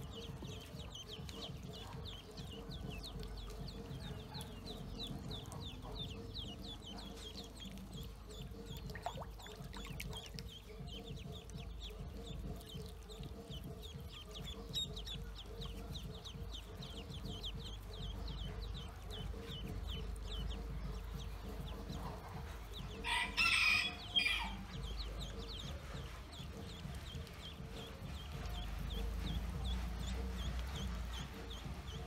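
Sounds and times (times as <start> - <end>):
ducklings peeping: 0.0 - 32.0.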